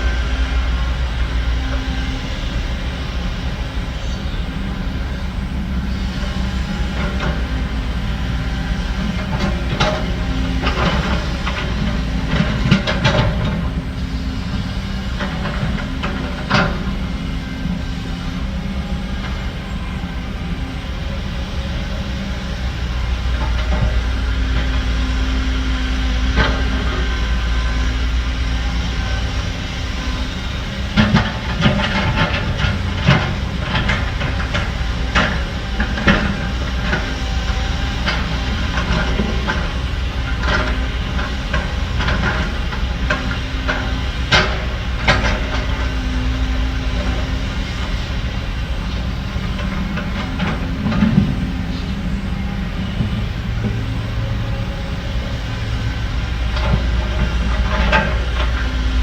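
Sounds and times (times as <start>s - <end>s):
diesel machinery droning: 0.0s - 59.0s.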